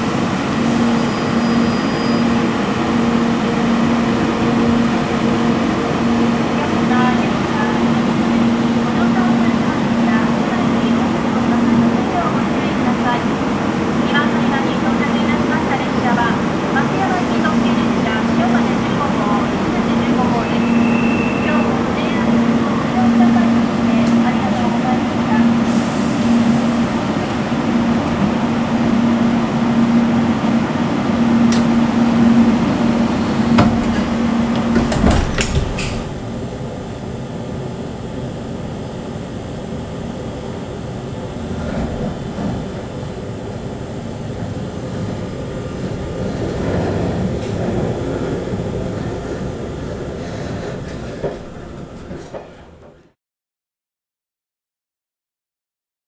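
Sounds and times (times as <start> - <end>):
train rumbling alongside: 0.0 - 53.2
train steady hum: 0.0 - 53.2.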